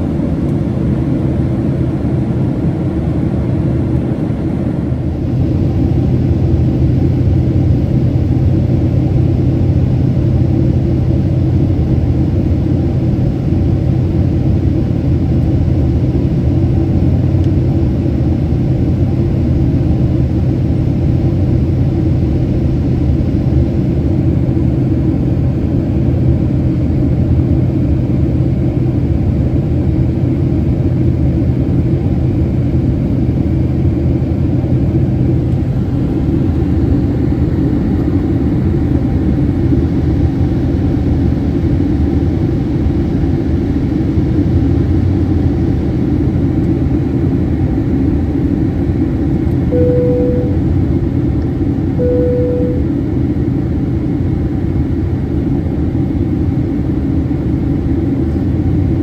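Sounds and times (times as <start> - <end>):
airliner cabin roar in flight: 0.0 - 59.0.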